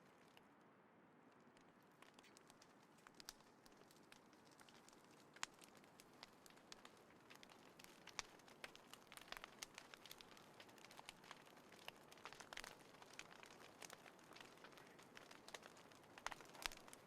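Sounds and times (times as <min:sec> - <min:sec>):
wood fire crackling: 0:01.3 - 0:17.0.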